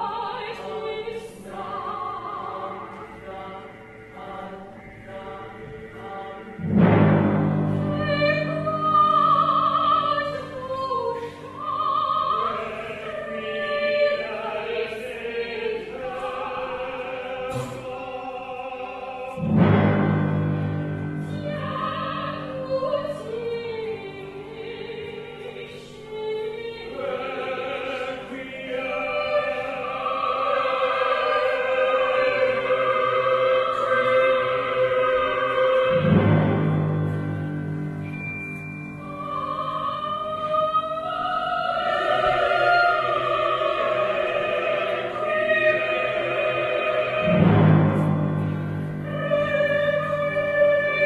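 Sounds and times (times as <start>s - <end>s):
woman singing opera: 0.0s - 6.6s, 7.8s - 19.4s, 21.2s - 36.6s, 39.0s - 47.7s, 49.0s - 51.0s.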